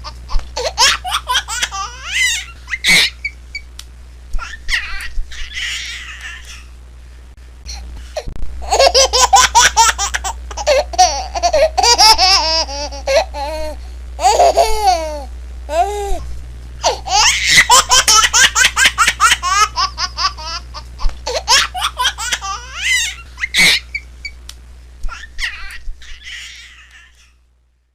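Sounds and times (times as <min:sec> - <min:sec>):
baby laughing: 0:00.0 - 0:03.4, 0:04.4 - 0:06.7, 0:08.6 - 0:16.2, 0:16.8 - 0:24.1, 0:25.1 - 0:27.3
faint low hum: 0:00.0 - 0:27.9.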